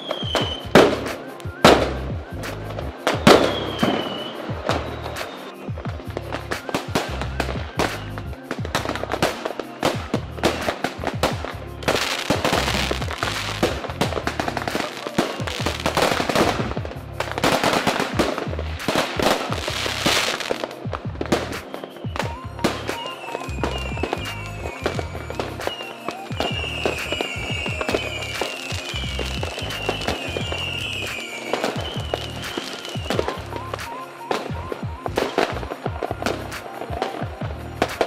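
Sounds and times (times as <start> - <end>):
fireworks bangs and crackling: 0.0 - 38.0
fireworks falling whistles: 0.0 - 38.0.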